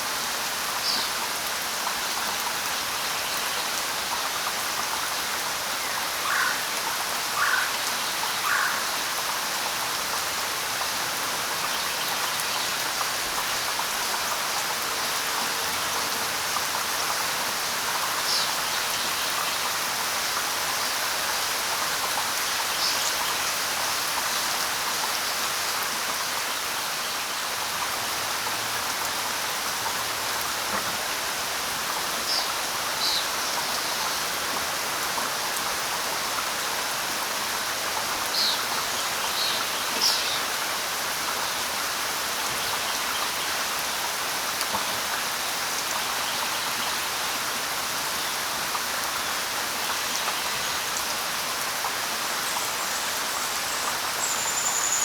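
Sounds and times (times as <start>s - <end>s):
light rain on leaves: 0.0s - 55.0s.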